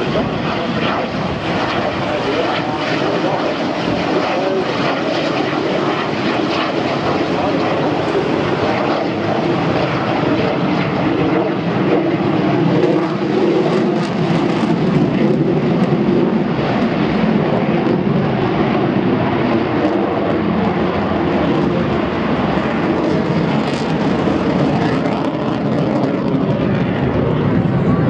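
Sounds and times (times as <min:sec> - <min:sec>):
aircraft engine overhead: 0:00.0 - 0:28.0.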